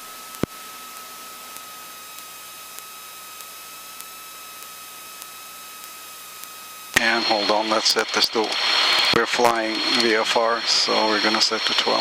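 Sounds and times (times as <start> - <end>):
faint high whine: 0.0 - 12.0
radio line hiss: 0.0 - 12.0.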